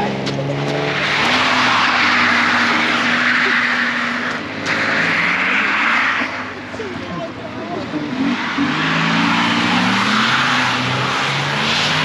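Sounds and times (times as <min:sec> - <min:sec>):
car engine: 0:00.0 - 0:12.0
tyres sliding over snow: 0:00.0 - 0:12.0.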